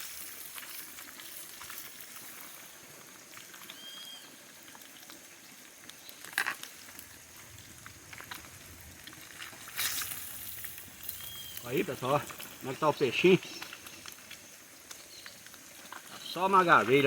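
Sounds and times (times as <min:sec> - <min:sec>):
fish sizzling in hot oil: 0:00.0 - 0:17.0
wood fire crackling: 0:00.0 - 0:17.0.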